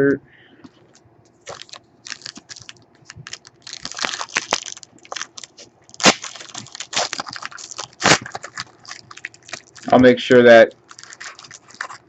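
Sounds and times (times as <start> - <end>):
foil wrappers crinkling: 0.8 - 12.0.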